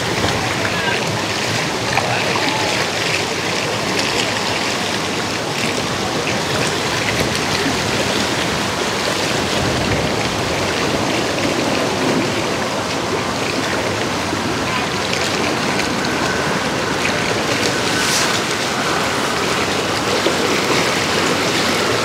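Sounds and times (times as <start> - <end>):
water lapping against dock: 0.0 - 22.0.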